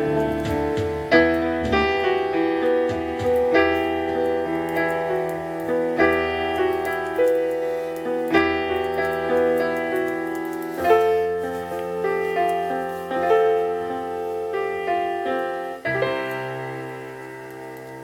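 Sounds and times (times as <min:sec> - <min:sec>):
piano chords from a vinyl record: 0:00.0 - 0:18.0.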